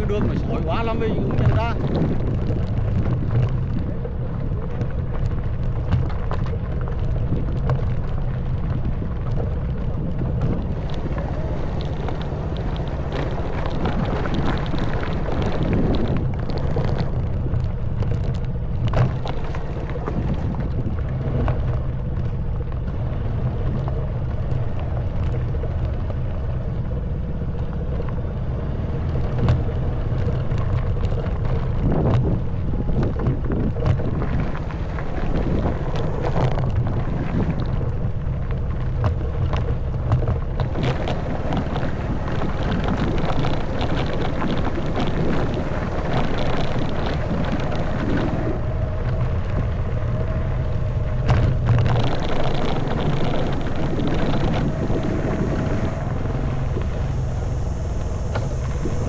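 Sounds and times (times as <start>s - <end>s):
motorcycle engine running: 0.0s - 59.0s
wheels rattling over gravel: 0.0s - 59.0s
wind noise on microphone: 0.0s - 59.0s.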